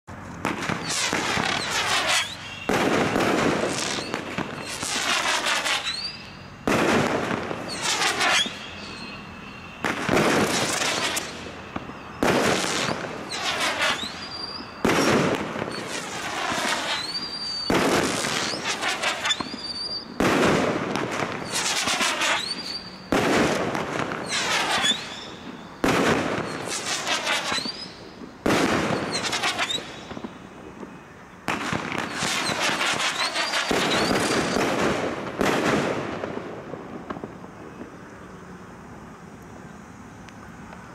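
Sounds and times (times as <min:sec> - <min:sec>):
firework shots bursting: 0:00.4 - 0:38.1.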